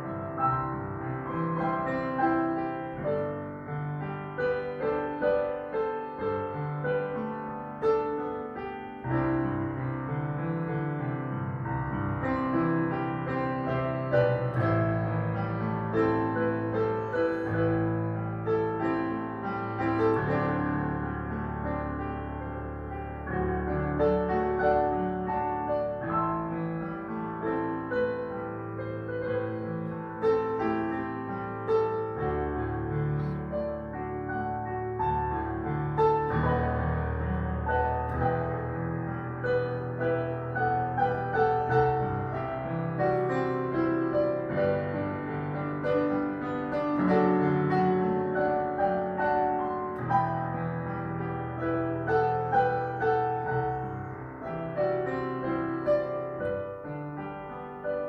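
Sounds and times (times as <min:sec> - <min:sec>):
slow piano music: 0:00.0 - 0:58.0.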